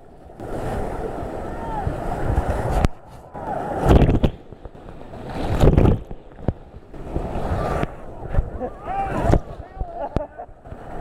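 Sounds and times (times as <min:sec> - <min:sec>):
crashing water surges: 0:00.0 - 0:11.0
whitewater churning: 0:00.0 - 0:11.0
wind buffeting microphone: 0:00.0 - 0:11.0.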